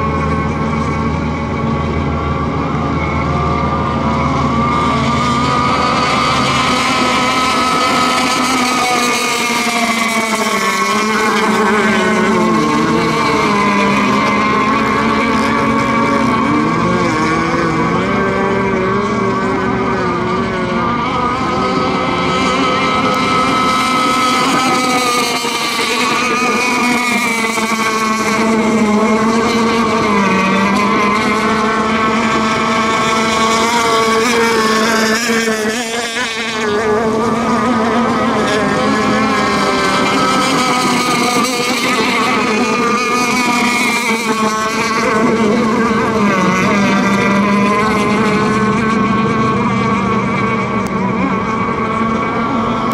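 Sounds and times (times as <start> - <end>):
racing boat motors whining: 0.0 - 52.9.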